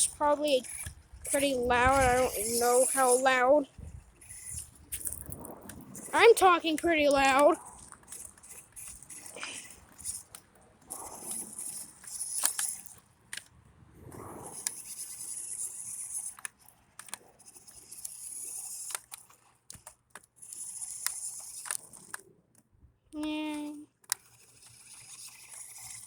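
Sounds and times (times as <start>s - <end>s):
rc car motor hissing: 0.0s - 13.0s, 14.2s - 19.8s, 20.4s - 22.2s, 23.6s - 26.0s.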